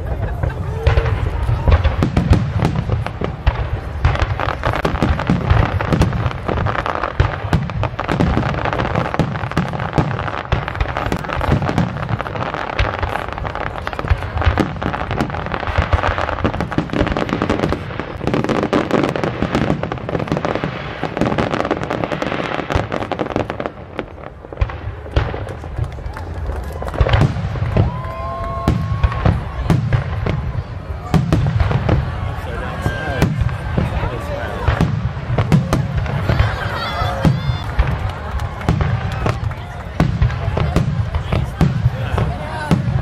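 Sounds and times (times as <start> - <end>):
fireworks bursting and crackling: 0.0 - 43.0.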